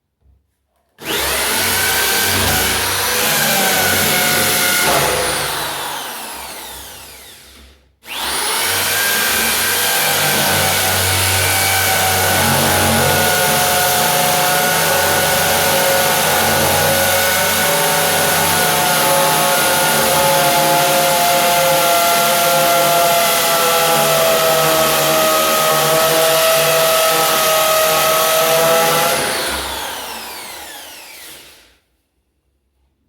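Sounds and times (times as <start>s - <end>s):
electric drill running: 1.0s - 31.6s.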